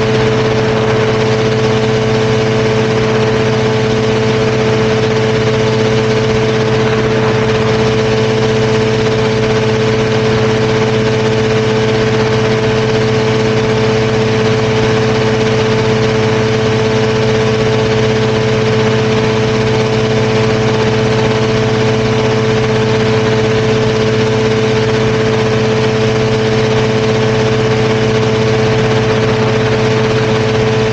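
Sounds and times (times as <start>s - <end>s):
aircraft engine and propeller drone: 0.0s - 30.9s.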